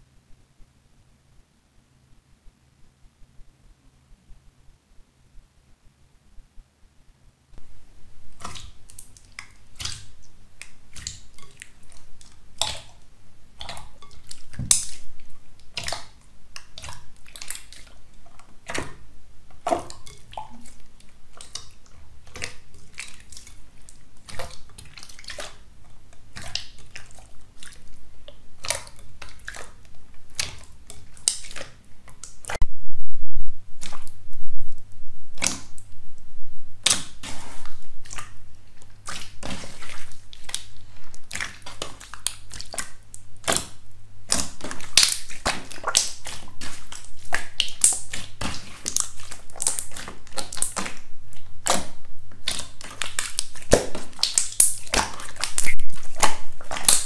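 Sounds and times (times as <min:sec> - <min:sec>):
wet slime squelching and popping: 0:07.6 - 0:32.7, 0:33.7 - 0:34.2, 0:35.4 - 0:35.9, 0:36.8 - 0:57.0.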